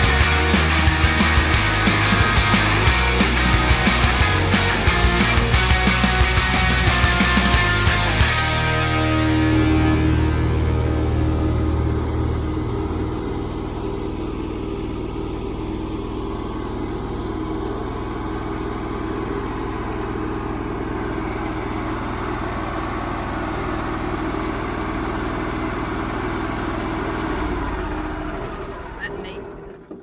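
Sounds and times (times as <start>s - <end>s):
sawmill engine running: 0.0s - 30.0s.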